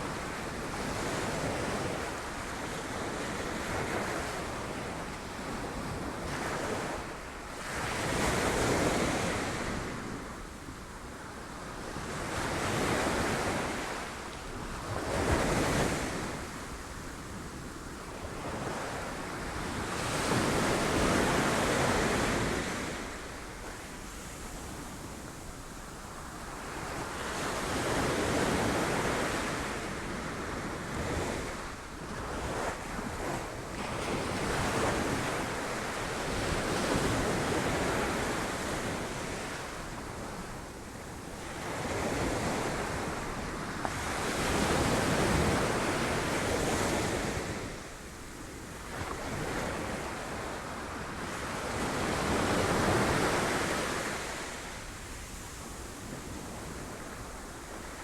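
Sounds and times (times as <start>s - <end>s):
wind on the microphone: 0.0s - 58.0s.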